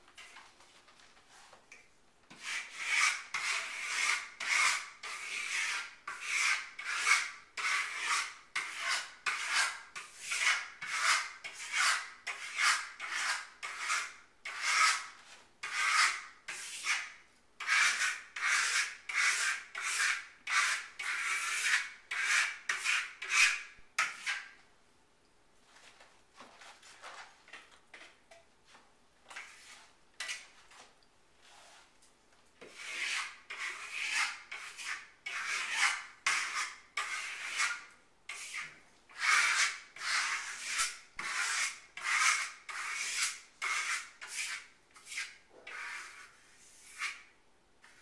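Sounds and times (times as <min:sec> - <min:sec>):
trowel scraping a wall: 0:02.3 - 0:24.6, 0:29.2 - 0:32.0, 0:32.6 - 0:48.0.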